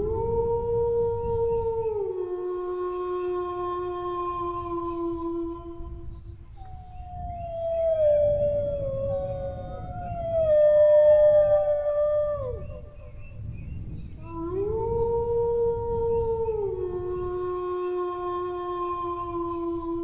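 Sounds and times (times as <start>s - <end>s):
dog howling: 0.0s - 5.9s, 6.6s - 13.4s, 14.2s - 20.0s
low rumbling background noise: 0.0s - 20.0s.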